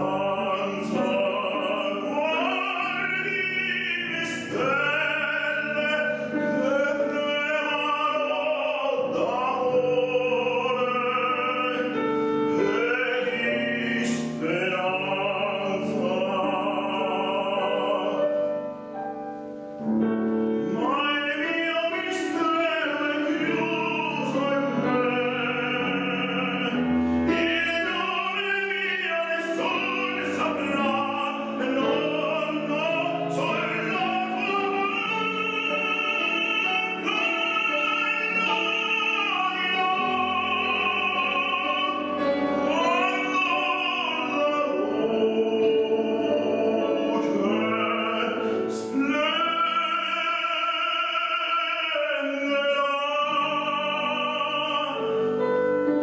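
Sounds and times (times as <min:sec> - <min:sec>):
grand piano: 0:00.0 - 0:56.0
man singing opera: 0:00.0 - 0:56.0.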